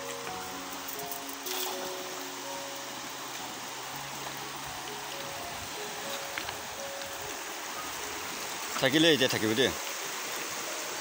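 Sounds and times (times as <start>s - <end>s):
river rushing over stones: 0.0s - 11.0s.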